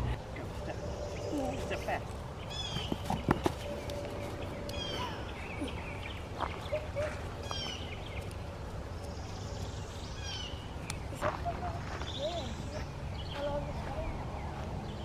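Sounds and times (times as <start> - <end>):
low outdoor rumble: 0.0 - 15.0
songbird singing: 0.0 - 15.0.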